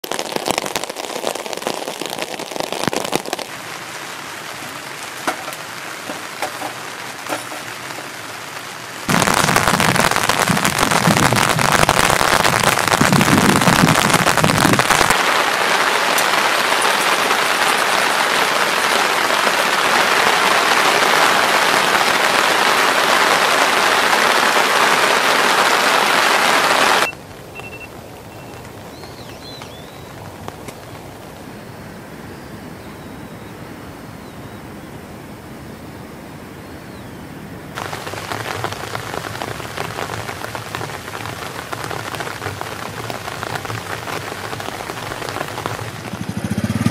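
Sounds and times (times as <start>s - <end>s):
heavy rain on a tarp: 0.0s - 32.2s, 37.7s - 46.9s
outdoor background: 0.0s - 46.9s.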